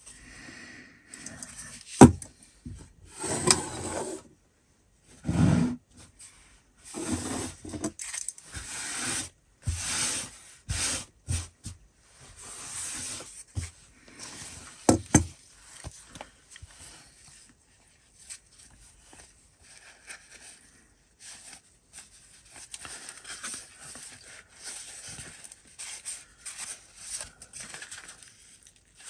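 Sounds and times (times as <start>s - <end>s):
rustling and scraping on wood: 1.8s - 4.3s, 5.2s - 29.0s.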